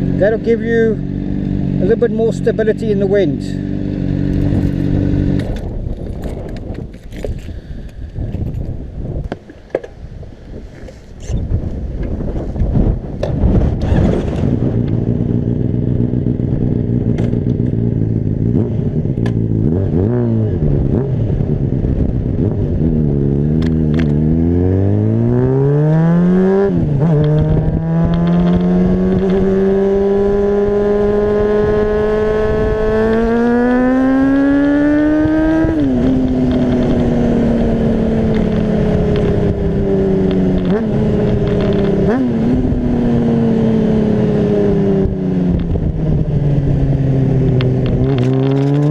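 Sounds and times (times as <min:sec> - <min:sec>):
motorcycle engine revving: 0:00.0 - 0:06.7, 0:13.4 - 0:48.9
wind noise on microphone: 0:03.7 - 0:48.9.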